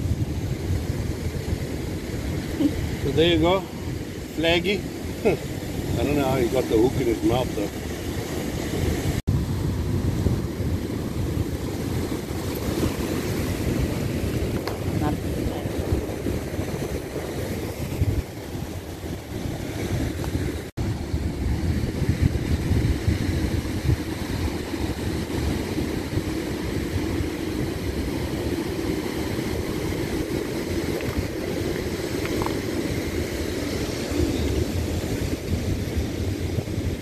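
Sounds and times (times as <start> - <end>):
surf washing over rocks: 0.0 - 37.0
wind buffeting microphone: 0.0 - 37.0.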